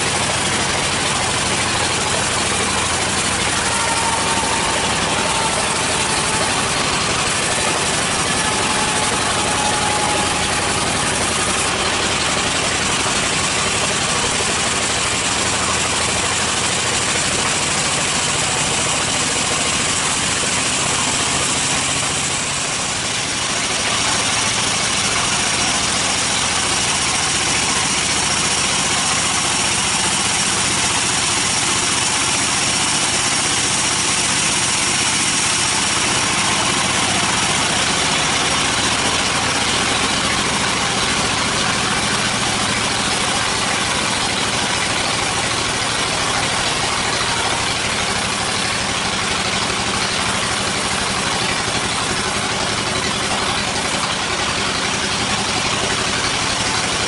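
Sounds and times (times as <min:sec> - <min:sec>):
band saw cutting wood: 0:00.0 - 0:57.0.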